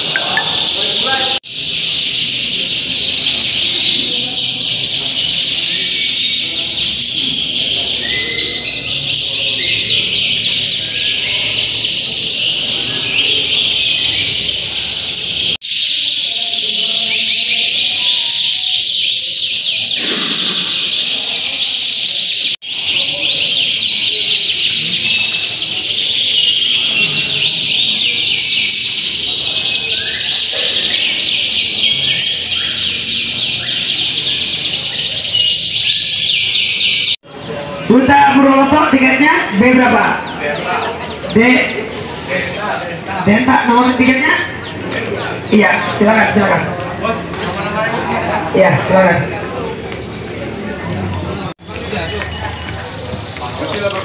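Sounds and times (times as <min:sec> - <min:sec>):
canaries trilling and chirping: 0:00.0 - 0:54.0.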